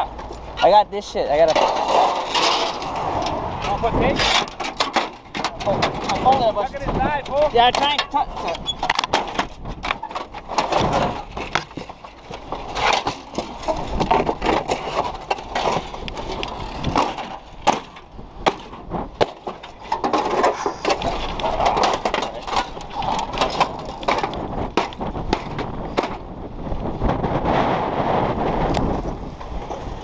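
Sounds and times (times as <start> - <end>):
knocks clatter and scraping: 0.0 - 27.6.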